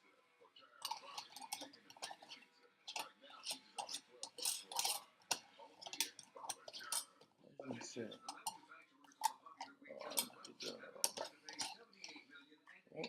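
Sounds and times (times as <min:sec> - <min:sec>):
kitchen utensils clicking and scraping: 0:00.7 - 0:12.4.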